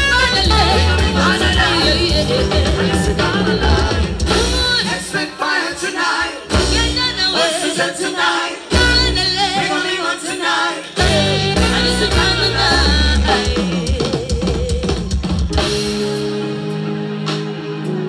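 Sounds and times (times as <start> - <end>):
woman singing: 0.0 - 15.1
amplified pop backing music: 0.0 - 18.0.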